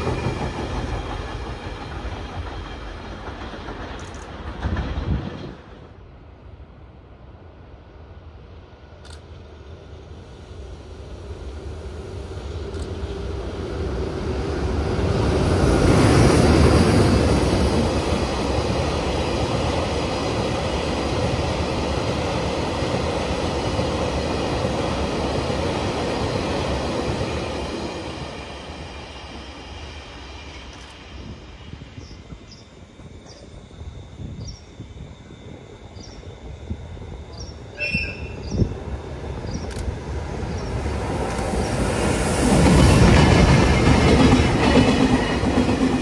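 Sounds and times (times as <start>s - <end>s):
electric locomotive passing with train: 0.0s - 46.0s.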